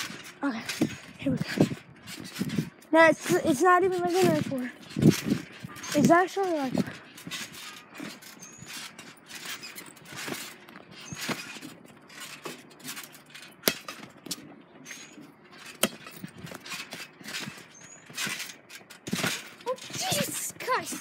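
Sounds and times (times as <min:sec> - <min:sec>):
trampoline thumps and spring creaks: 0:00.0 - 0:21.0.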